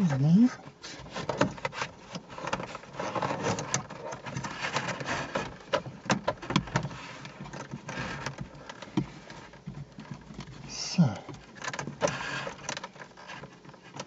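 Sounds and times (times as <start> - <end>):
cables rustling against plastic trim: 0.0 - 14.0.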